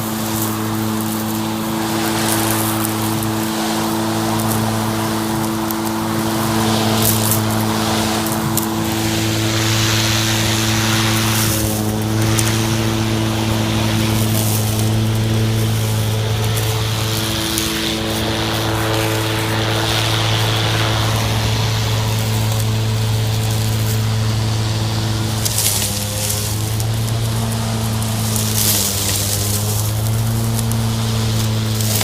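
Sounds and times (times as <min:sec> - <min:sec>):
grass swishing: 0:00.0 - 0:32.0
lawn mower humming: 0:00.0 - 0:32.0.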